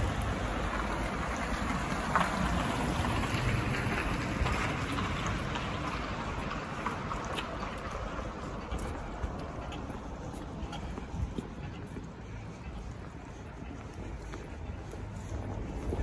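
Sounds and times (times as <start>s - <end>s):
car tyres on asphalt: 0.0s - 16.0s.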